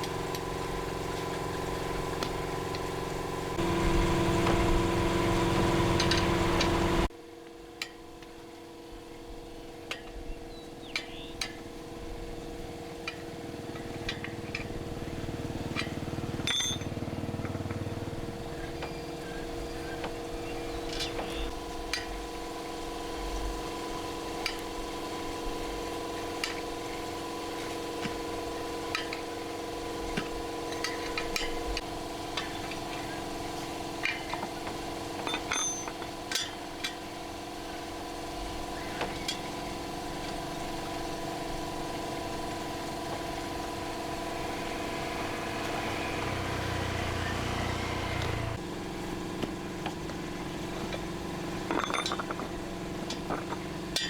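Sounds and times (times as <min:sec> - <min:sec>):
machine hum: 0:00.0 - 0:07.1, 0:11.8 - 0:54.0.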